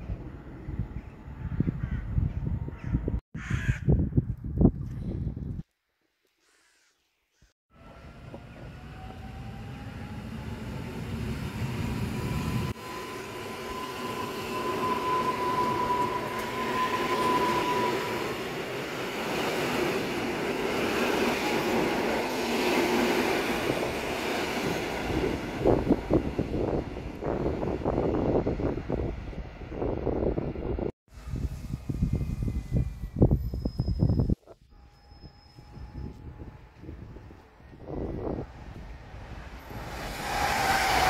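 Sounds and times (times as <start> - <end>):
train wheel and body rumble: 7.8 - 41.0.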